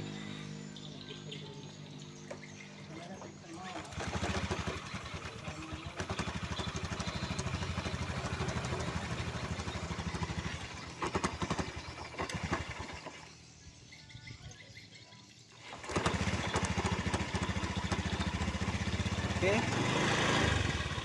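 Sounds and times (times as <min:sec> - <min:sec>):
scooter engine starting and idling: 0:00.0 - 0:21.0.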